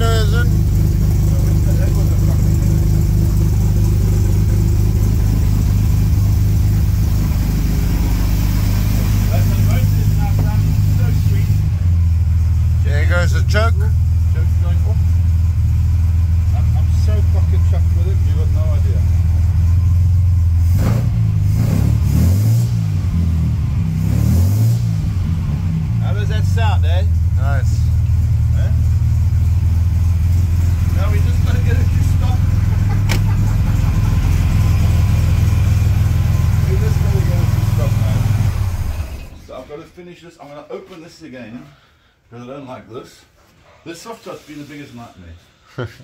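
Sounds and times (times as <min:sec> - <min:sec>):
car engine running steadily: 0:00.0 - 0:39.5.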